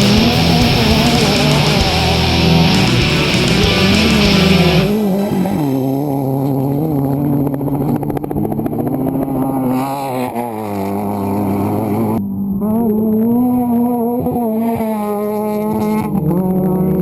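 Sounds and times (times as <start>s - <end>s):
buggy engine running: 0.0s - 17.0s.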